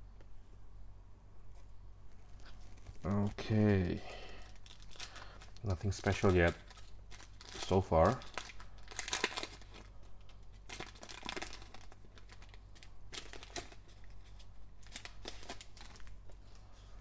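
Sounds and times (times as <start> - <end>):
foil wrapper crinkling and tearing: 2.4 - 16.3.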